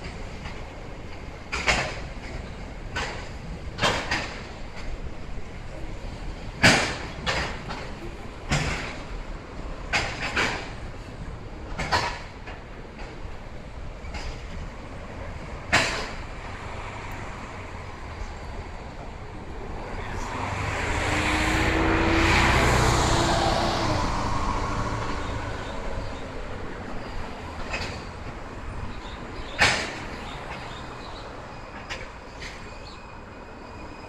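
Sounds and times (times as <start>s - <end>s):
steel wheels rumbling on rails: 0.0s - 34.0s.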